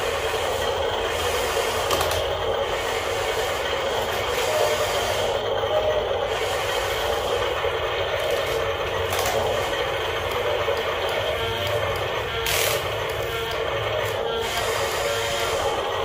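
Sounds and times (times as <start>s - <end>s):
toy excavator motors whirring: 0.0s - 16.0s.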